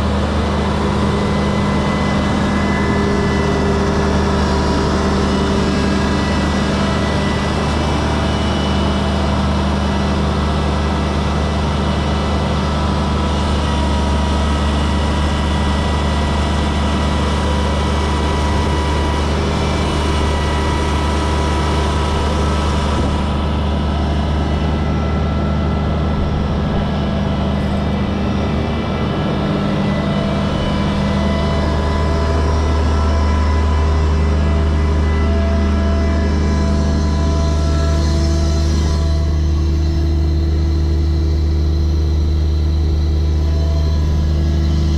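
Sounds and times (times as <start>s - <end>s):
steady higher tones: 0.0s - 44.9s
truck engine hum: 0.0s - 44.9s.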